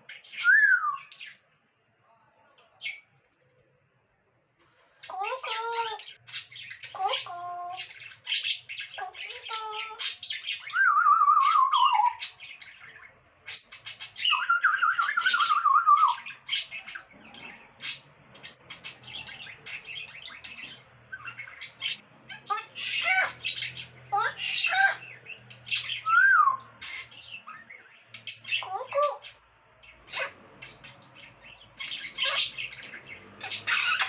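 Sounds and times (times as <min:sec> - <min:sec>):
parrot squawks and chirps: 0:00.0 - 0:01.4, 0:05.0 - 0:34.0.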